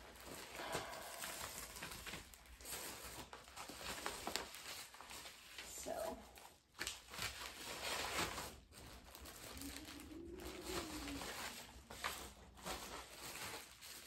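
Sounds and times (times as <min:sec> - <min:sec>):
mailer and plastic bags crinkling: 0:00.0 - 0:14.0.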